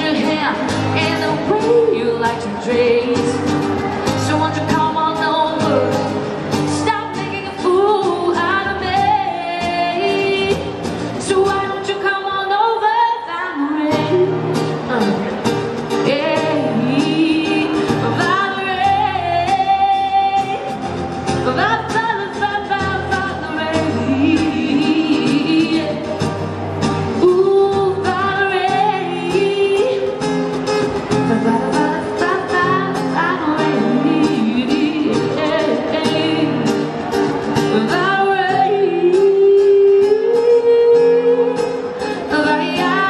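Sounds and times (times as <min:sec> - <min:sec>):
strummed acoustic guitar: 0:00.0 - 0:12.9, 0:13.6 - 0:43.0
woman singing into a microphone: 0:00.0 - 0:43.0.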